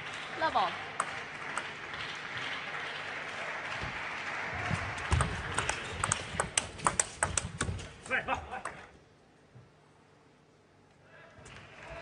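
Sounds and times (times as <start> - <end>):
arena crowd noise: 0.0 - 8.9, 11.0 - 12.0.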